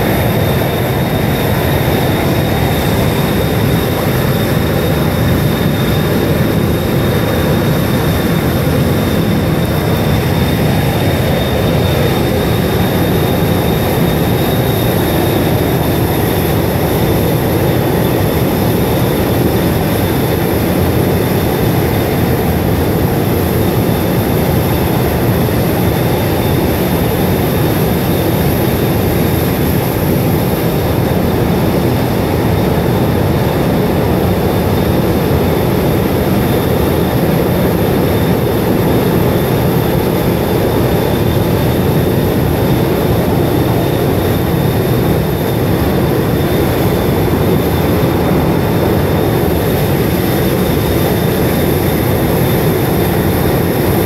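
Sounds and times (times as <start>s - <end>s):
high-pressure steam roaring: 0.0s - 54.0s.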